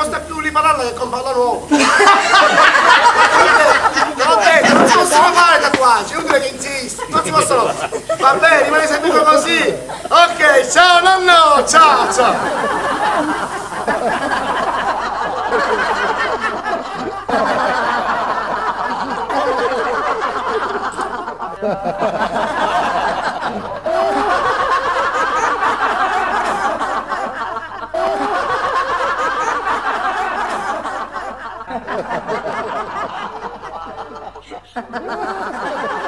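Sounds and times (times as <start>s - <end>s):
audience laughing: 0.0s - 36.0s.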